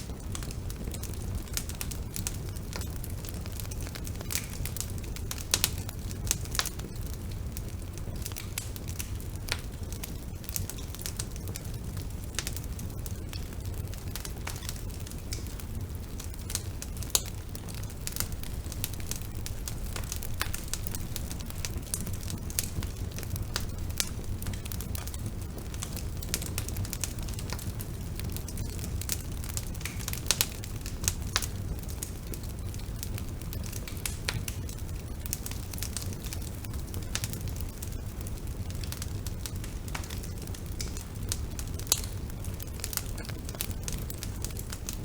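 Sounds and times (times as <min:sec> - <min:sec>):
burning wood crackling: 0:00.0 - 0:45.0
wood fire rumbling: 0:00.0 - 0:45.0.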